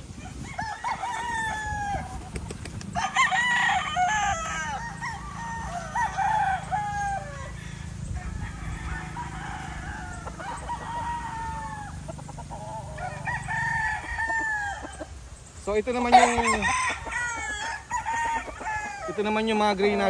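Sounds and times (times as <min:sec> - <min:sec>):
roosters crowing: 0:00.0 - 0:20.0.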